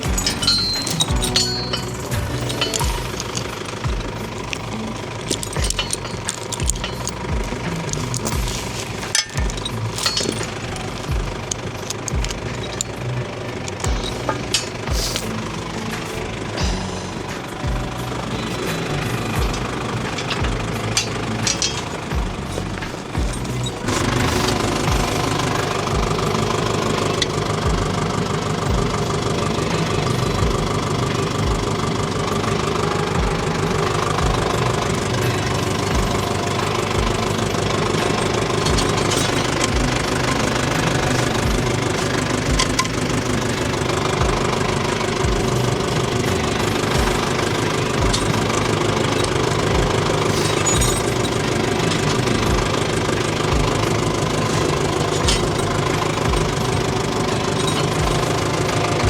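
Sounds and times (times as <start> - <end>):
tractor engine chugging: 0.0 - 59.0.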